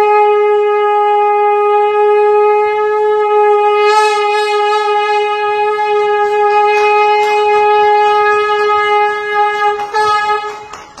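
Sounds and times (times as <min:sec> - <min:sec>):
conch shell long note: 0:00.0 - 0:11.0.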